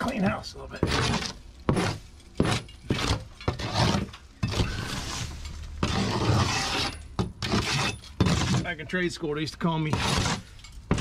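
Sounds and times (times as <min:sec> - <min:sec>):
flat bar scraping debris: 0:00.0 - 0:08.9, 0:09.8 - 0:11.0.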